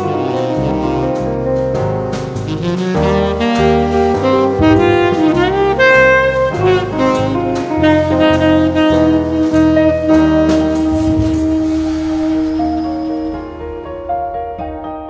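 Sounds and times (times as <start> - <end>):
jazz-style music: 0.0 - 15.0.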